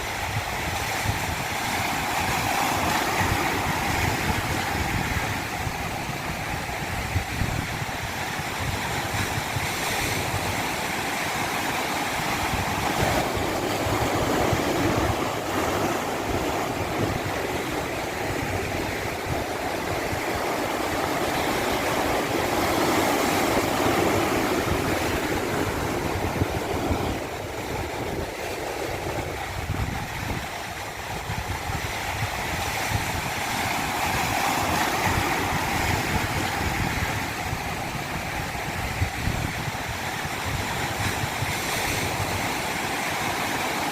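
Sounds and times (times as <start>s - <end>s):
rushing water: 0.0s - 43.9s.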